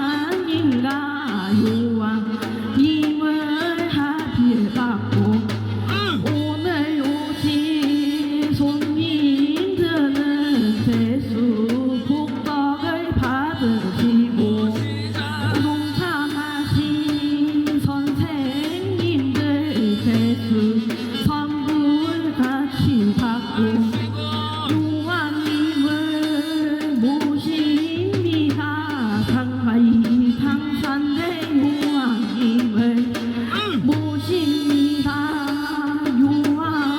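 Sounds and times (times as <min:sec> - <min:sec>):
drum strokes: 0:00.0 - 0:36.9.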